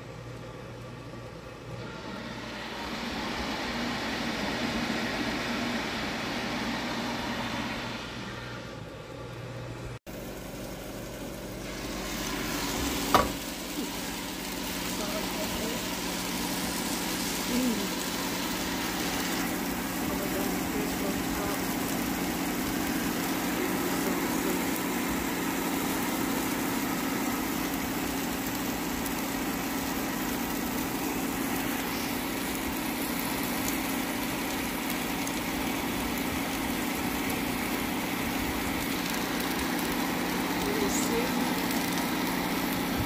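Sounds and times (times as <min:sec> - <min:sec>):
air fryer fan hum: 0:00.0 - 0:43.0.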